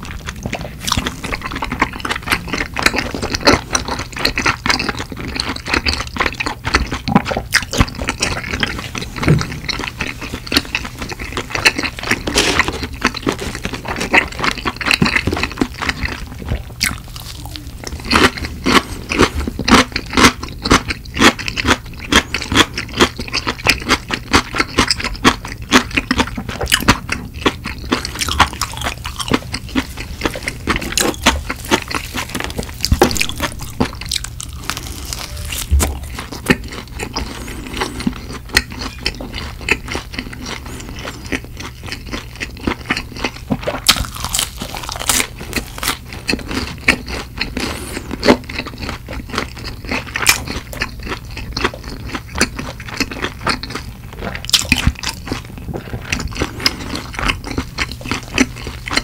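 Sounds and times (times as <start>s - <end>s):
crunchy chewing of fried chicken: 0.0s - 59.0s.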